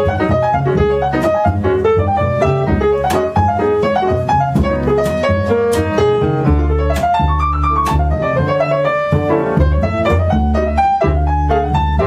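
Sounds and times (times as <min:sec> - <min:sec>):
grand piano jazz solo: 0:00.0 - 0:12.0
upright bass: 0:00.0 - 0:12.0.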